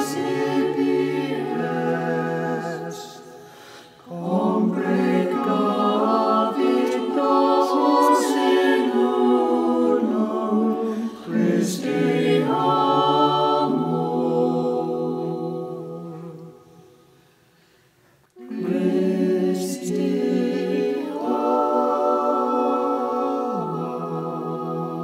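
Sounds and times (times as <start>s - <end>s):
choir singing unaccompanied: 0.0s - 3.4s, 4.0s - 16.6s, 18.4s - 25.0s.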